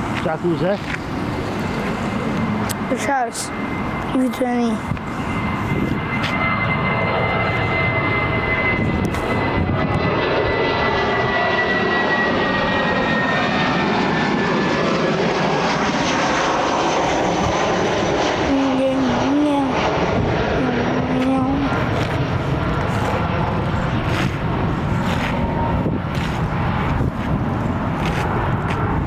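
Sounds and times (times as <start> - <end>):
high fan whine: 0.0 - 29.0
jet engines roaring: 0.0 - 29.0.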